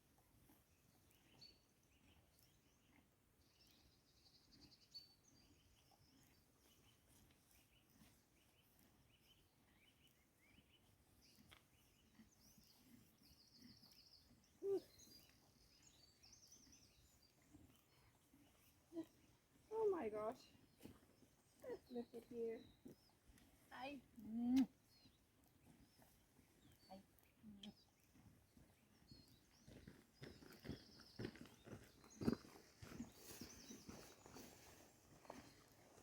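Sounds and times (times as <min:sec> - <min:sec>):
birds chirping and trilling: 0:04.5 - 0:24.0, 0:24.9 - 0:34.8.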